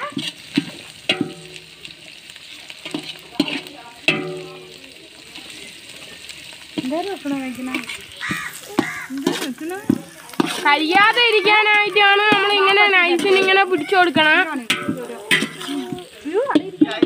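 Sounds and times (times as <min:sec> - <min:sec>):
metal ladle scraping pot: 0:00.0 - 0:01.7, 0:02.7 - 0:04.8, 0:05.4 - 0:17.0
vegetables sizzling in oil: 0:00.0 - 0:17.0.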